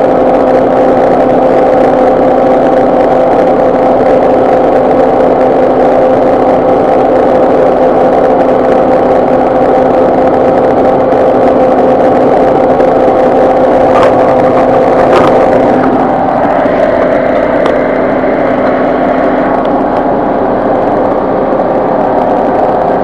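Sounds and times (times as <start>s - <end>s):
car engine and air conditioning drone: 0.0s - 23.0s.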